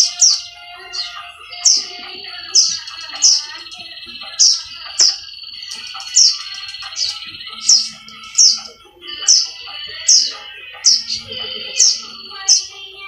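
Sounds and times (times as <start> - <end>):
fledgling bird chirping: 0.0 - 13.0.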